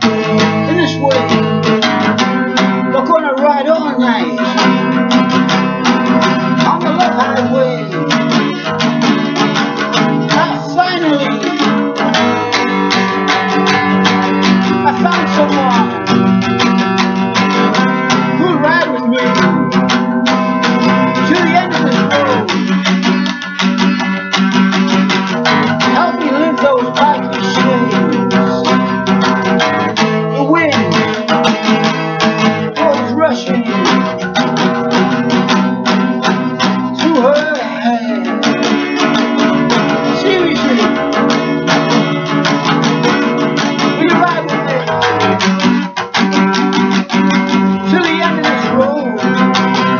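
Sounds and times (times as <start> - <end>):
guitar strumming and picking: 0.0 - 49.9.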